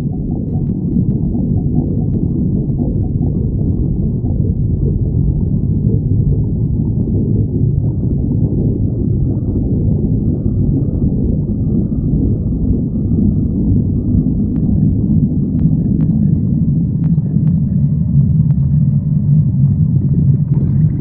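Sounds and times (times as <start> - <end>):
stomach growling: 0.0 - 21.0.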